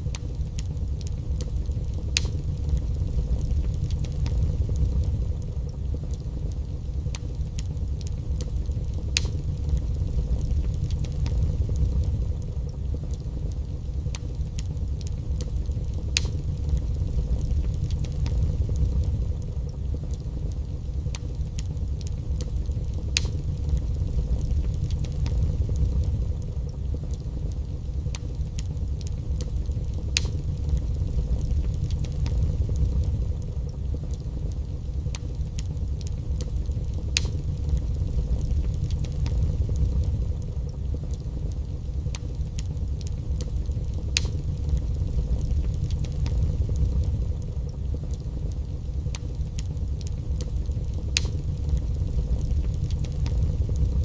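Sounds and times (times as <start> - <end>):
steady low rumble: 0.0 - 54.0
wood fire crackling and popping: 0.0 - 54.0.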